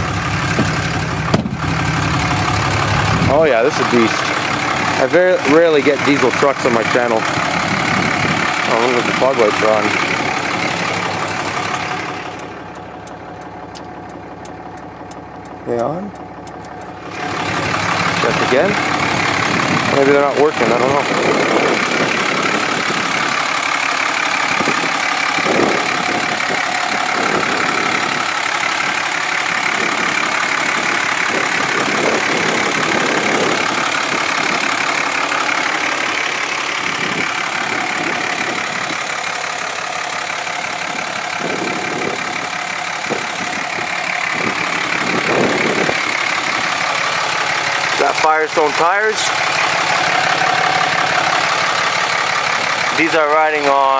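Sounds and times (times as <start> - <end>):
diesel pickup engine idling: 0.0 - 53.9.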